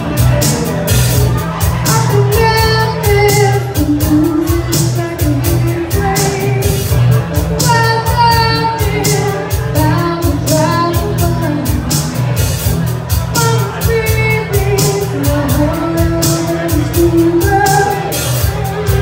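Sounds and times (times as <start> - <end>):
live band playing: 0.0 - 19.0
woman singing: 1.6 - 12.2, 13.3 - 18.4.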